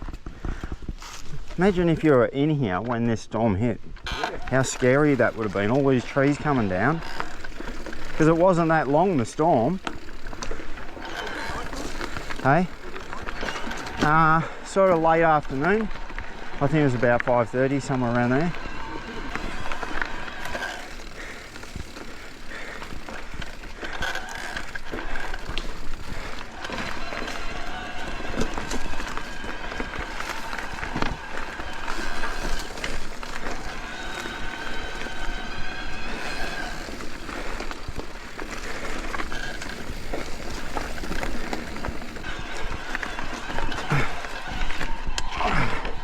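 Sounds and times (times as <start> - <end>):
bike tyres rolling on dirt: 0.0 - 46.0
bike chain and frame rattling: 4.0 - 46.0.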